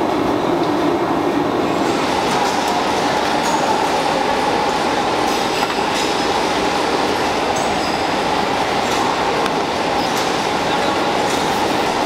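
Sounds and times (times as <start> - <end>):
factory machinery drone: 0.0 - 12.0.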